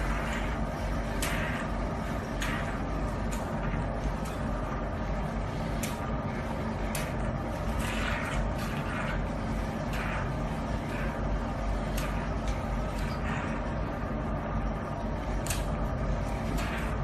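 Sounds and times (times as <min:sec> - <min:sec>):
suction pump running: 0:00.0 - 0:17.0.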